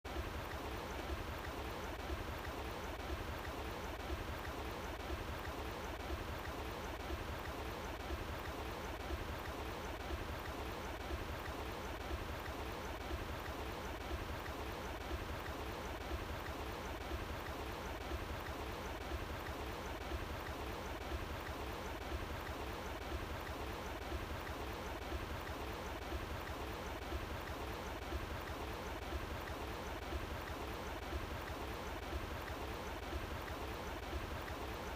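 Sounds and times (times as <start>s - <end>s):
running water flowing: 0.1s - 34.9s.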